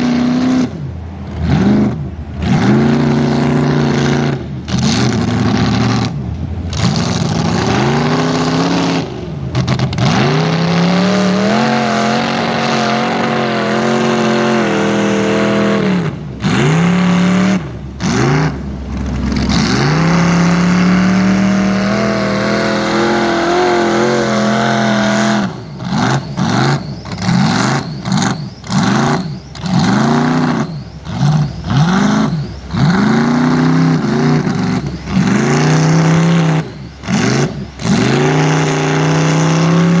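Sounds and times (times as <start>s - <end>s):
truck engine revving in mud: 0.0s - 40.0s.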